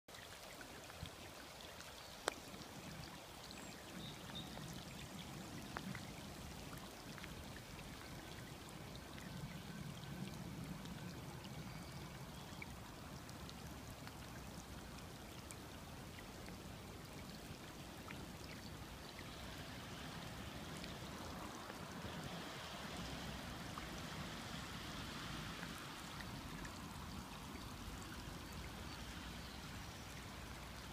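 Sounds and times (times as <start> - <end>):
floodwater rushing: 0.1 - 30.9.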